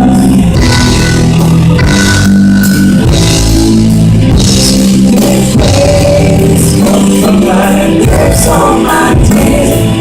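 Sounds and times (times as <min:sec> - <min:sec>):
guitar and keyboard chords: 0:00.0 - 0:10.0.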